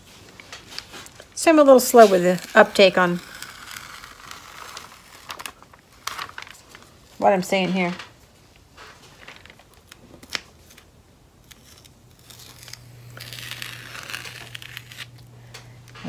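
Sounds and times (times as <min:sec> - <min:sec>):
tape peeling off paper: 0:00.6 - 0:07.1, 0:08.8 - 0:16.0.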